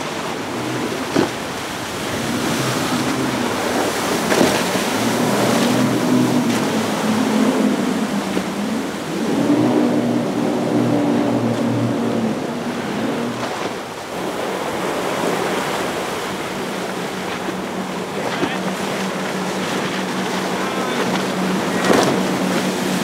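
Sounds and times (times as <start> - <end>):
outboard engines droning: 0.0 - 23.0
waves breaking and spray: 0.0 - 23.0.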